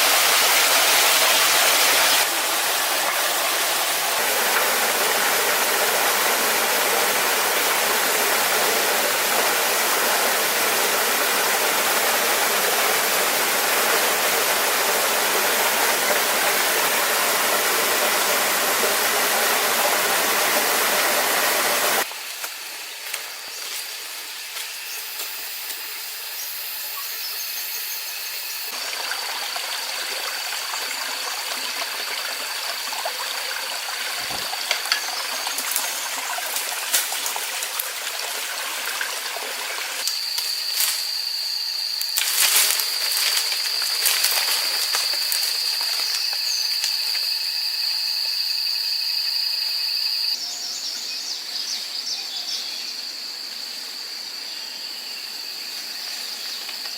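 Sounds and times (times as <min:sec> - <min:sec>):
rushing falling water: 0:00.0 - 0:27.0, 0:28.5 - 0:47.9.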